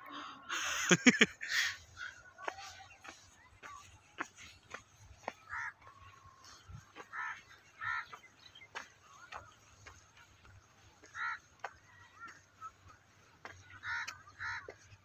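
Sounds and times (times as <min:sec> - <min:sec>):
birds calling: 0:00.5 - 0:15.0.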